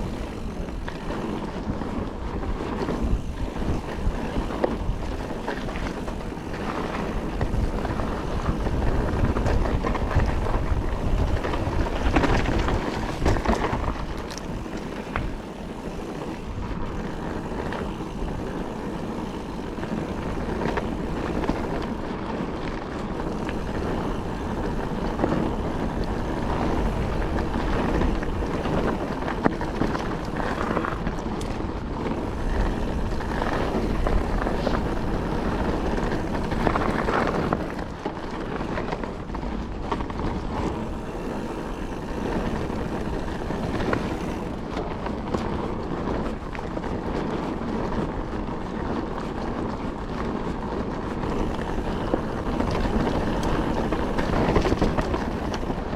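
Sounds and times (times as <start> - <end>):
bike rattling and knocking: 0.0 - 55.9
tyres rumbling on loose ground: 0.0 - 55.9
wind buffeting microphone: 0.0 - 55.9.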